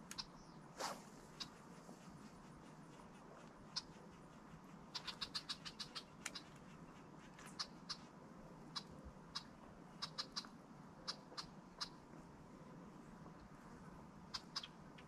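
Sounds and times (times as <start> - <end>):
high-pitched animal clicking calls: 0.0 - 0.5, 1.3 - 12.2, 14.2 - 15.0.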